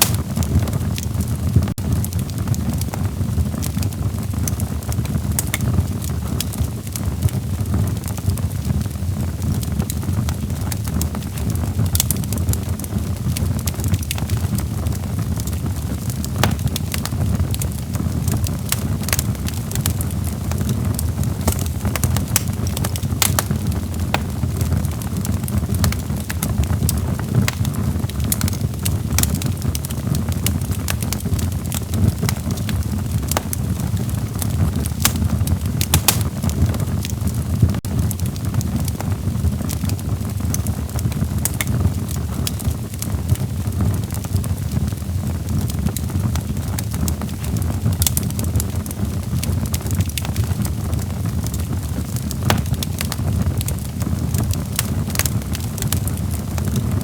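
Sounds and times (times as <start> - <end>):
burning wood crackling and popping: 0.0 - 57.0
log fire rumbling: 0.0 - 57.0.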